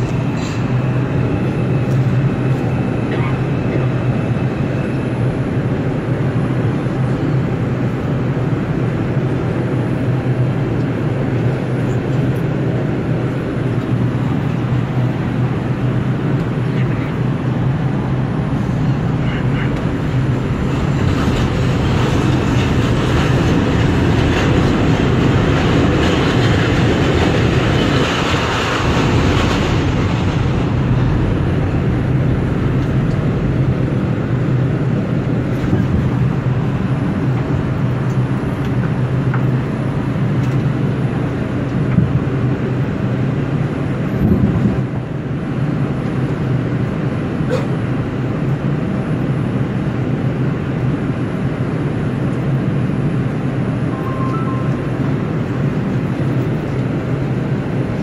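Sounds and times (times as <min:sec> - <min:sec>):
subway train rumble: 0:00.0 - 0:58.0
wheels rushing on rail: 0:00.0 - 0:58.0.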